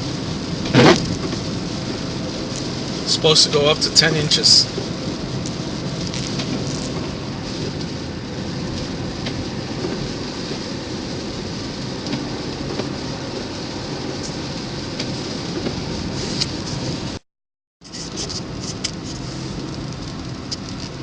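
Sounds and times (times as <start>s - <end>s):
tyre noise on icy road: 0.0s - 17.2s, 17.8s - 21.0s.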